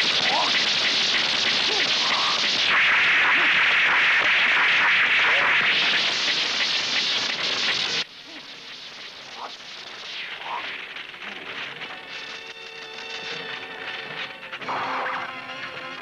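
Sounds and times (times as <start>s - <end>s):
loud steady hiss: 0.0s - 16.0s.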